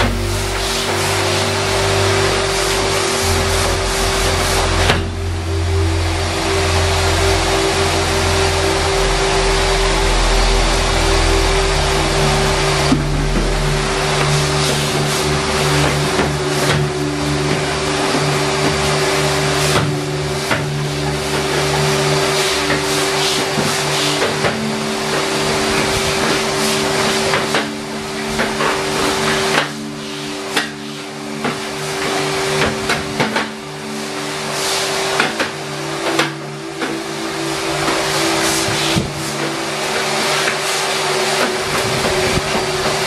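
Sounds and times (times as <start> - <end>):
vacuum motor whine: 0.0 - 43.0.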